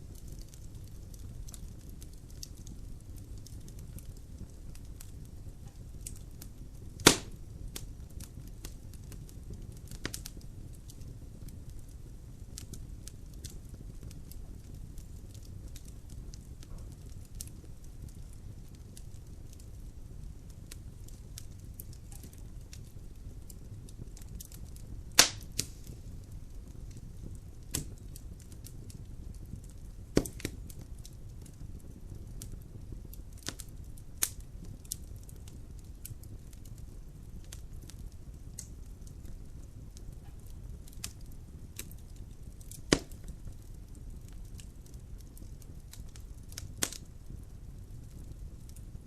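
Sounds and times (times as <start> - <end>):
logs burning in fireplace: 0.0 - 49.0.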